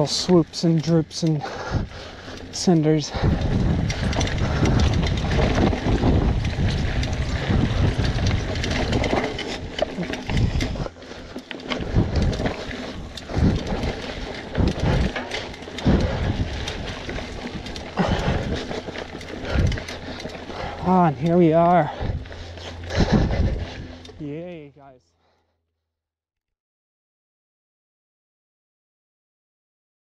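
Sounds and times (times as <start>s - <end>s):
bike clattering over bumps: 0.0s - 24.5s
wind rumbling on microphone: 0.0s - 24.7s
bike tyre noise on dirt: 0.0s - 24.8s.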